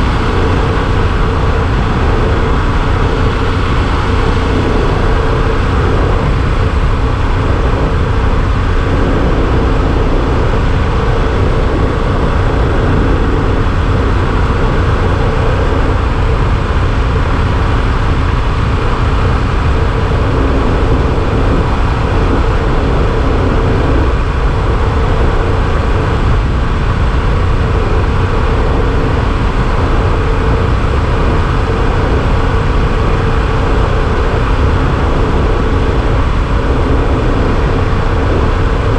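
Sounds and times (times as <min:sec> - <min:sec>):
motorcycle engine cruising: 0:00.0 - 0:38.9
rushing wind noise: 0:00.0 - 0:38.9.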